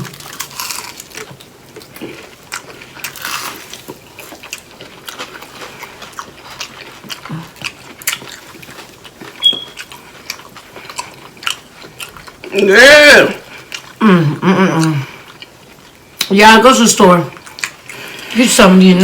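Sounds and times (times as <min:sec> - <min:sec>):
crunching and chewing: 0:00.0 - 0:12.6, 0:13.4 - 0:14.0, 0:14.8 - 0:16.3, 0:17.3 - 0:18.4.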